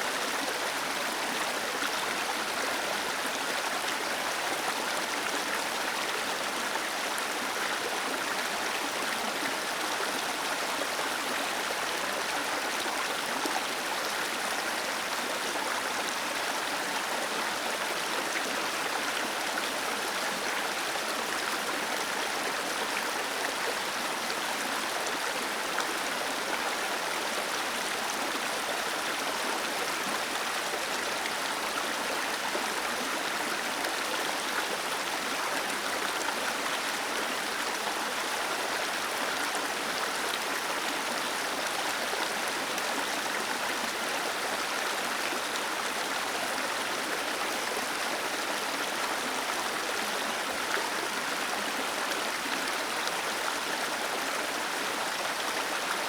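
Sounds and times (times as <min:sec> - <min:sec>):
small waterfall over stones: 0:00.0 - 0:56.0.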